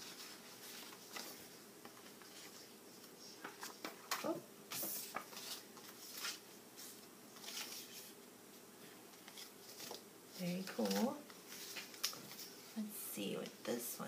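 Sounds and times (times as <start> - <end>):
paper cards rustling: 0.0 - 8.1, 9.1 - 12.7.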